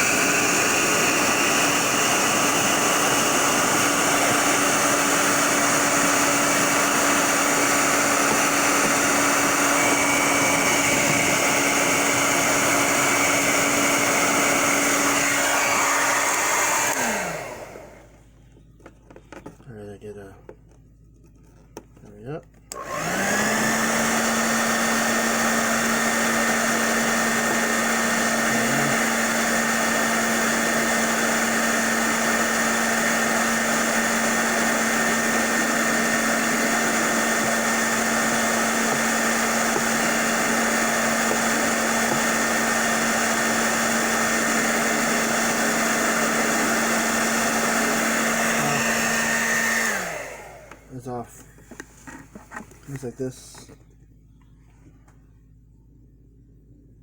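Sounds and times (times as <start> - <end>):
hair dryer running: 0.0 - 18.2, 22.7 - 51.0.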